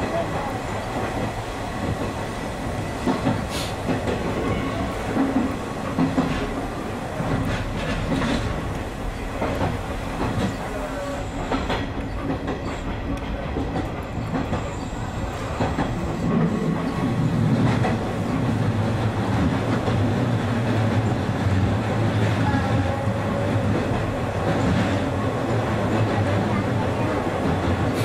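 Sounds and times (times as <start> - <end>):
train running rumble: 0.0 - 28.0.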